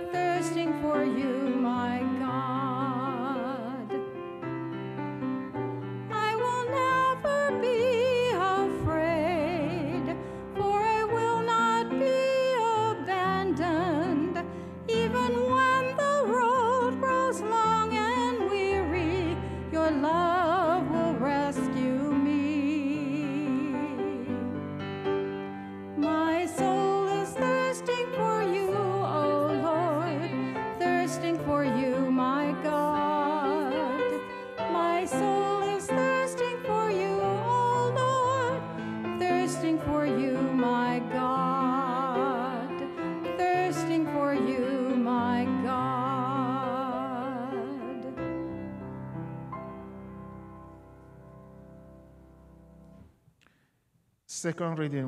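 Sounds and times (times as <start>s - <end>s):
woman singing with vibrato: 0.0s - 3.9s, 6.1s - 24.5s, 26.0s - 48.2s
grand piano: 0.0s - 53.6s.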